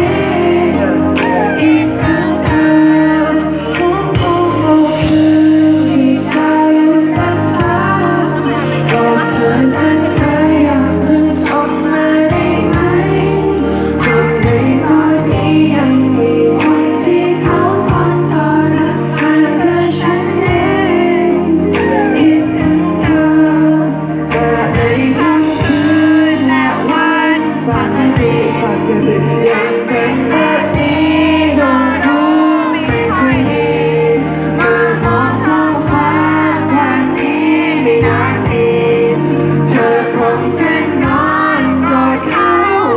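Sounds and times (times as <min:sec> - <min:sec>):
instrumental accompaniment: 0:00.0 - 0:42.9
person singing: 0:00.0 - 0:42.9.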